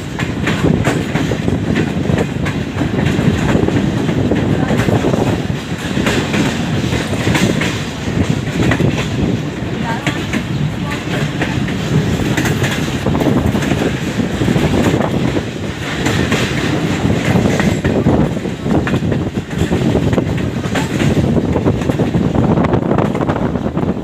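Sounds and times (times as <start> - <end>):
train clicks and rattles: 0.0 - 24.0
train wheels rumbling on track: 0.0 - 24.0.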